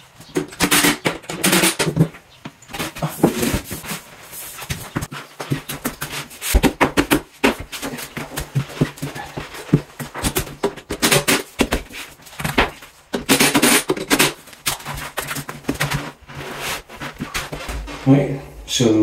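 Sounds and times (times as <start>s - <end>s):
scraping rustles: 0.2s - 6.8s, 7.6s - 18.4s.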